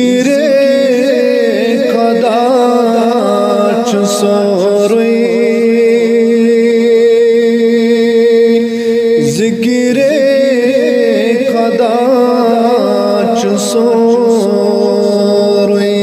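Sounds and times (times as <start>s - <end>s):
man singing with reverb: 0.0s - 16.0s.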